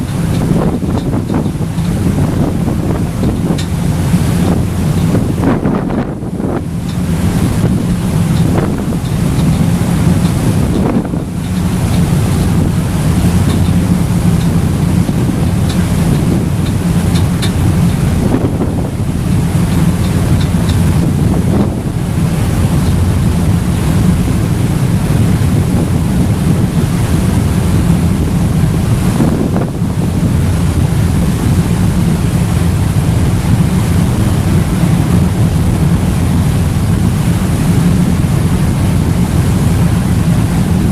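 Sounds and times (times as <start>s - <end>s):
ferry engine droning: 0.0s - 40.9s
rushing water: 0.0s - 40.9s
wind buffeting microphone: 0.0s - 40.9s.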